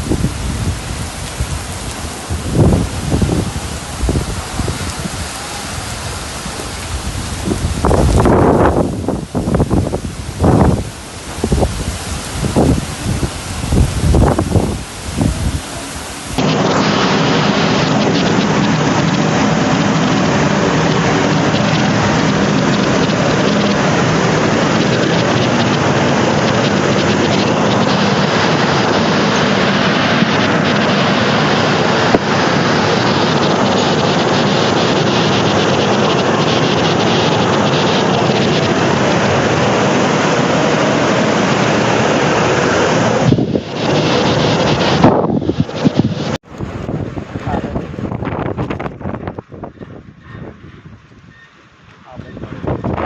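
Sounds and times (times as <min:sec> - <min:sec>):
heavy rain downpour: 0:00.0 - 0:53.0
storm wind: 0:00.0 - 0:53.0
wind buffeting microphone: 0:00.0 - 0:53.0.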